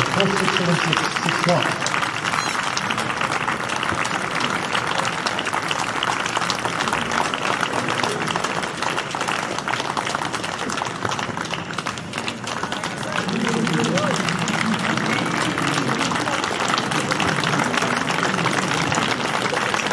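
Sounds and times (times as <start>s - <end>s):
crowd applauding: 0.0s - 19.9s.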